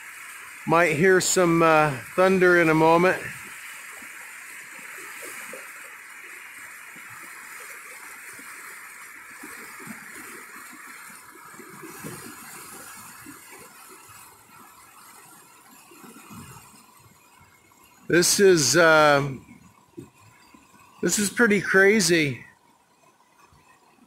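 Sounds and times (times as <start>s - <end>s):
floodwater rushing and gurgling: 0.0s - 24.0s.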